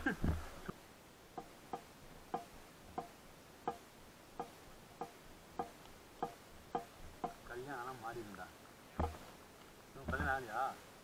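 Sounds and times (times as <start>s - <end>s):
faint steady hiss: 0.0s - 11.0s
faint regular ticking: 0.7s - 10.5s.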